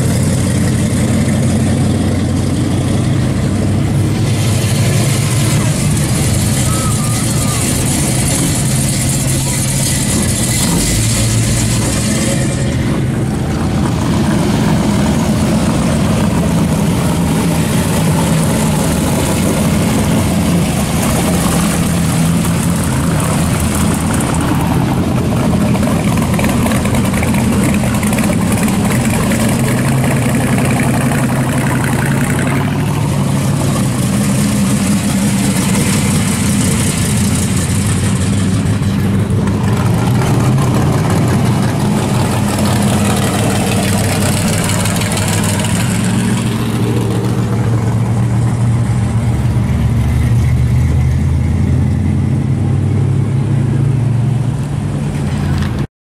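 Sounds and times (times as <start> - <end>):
car engines idling and revving: 0.0 - 55.9.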